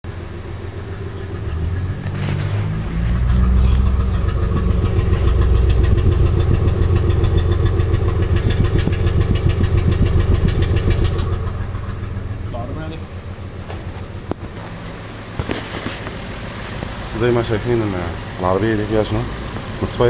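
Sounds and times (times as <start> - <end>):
car engine idling with misfire: 0.0 - 20.0.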